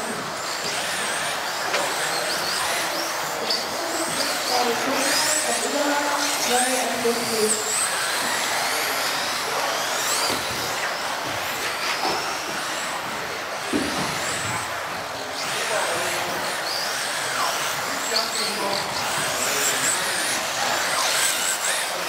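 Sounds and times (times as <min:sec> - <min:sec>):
rc car motors whining: 0:00.0 - 0:22.0.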